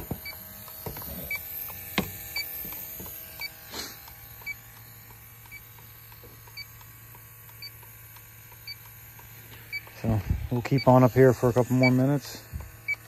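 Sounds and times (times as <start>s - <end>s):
leak detector ticking: 0.0s - 13.0s.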